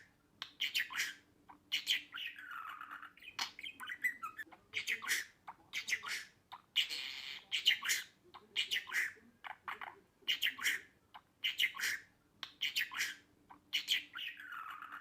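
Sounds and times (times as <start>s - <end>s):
budgerigar chattering: 0.0s - 15.0s.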